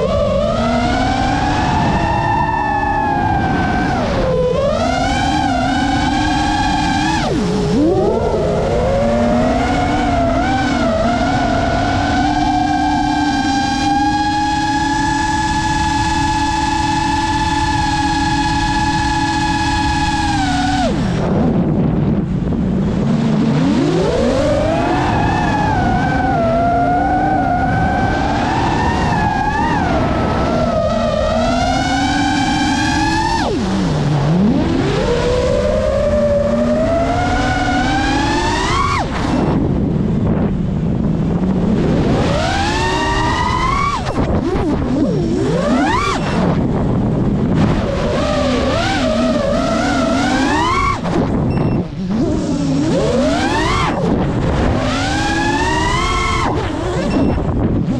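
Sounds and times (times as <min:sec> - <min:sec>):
drone motors whining: 0:00.0 - 0:57.9
wind noise on microphone: 0:00.0 - 0:57.9.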